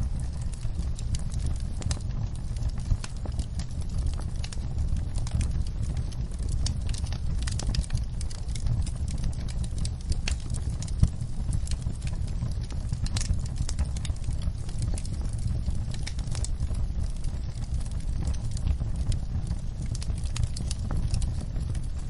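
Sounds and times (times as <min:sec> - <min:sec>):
low rumble of flame: 0:00.0 - 0:22.0
wood fire crackling: 0:00.0 - 0:22.0.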